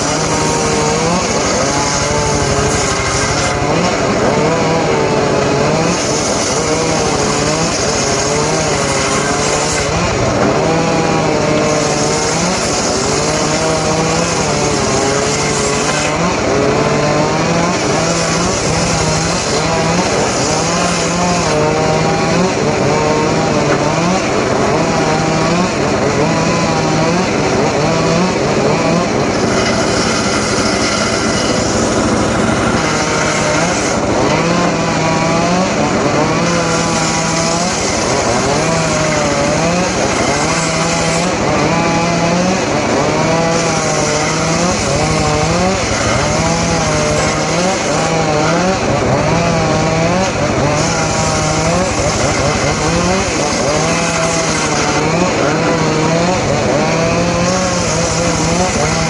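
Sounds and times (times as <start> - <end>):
blade cutting into wood: 0.0 - 59.0
engine-driven saw running: 0.0 - 59.0.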